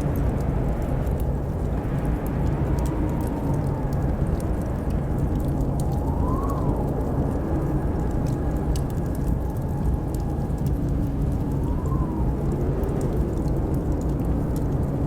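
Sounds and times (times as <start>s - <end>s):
blizzard wind howling: 0.0s - 15.0s
wood fire crackling: 0.0s - 15.0s.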